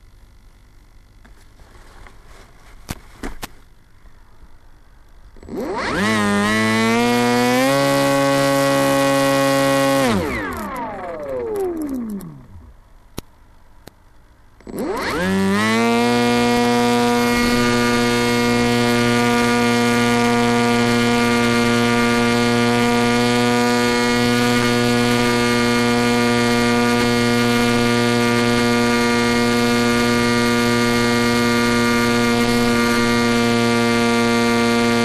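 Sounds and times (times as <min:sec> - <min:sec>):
electric motor and propeller spinning: 0:04.8 - 0:12.8, 0:14.6 - 0:35.0.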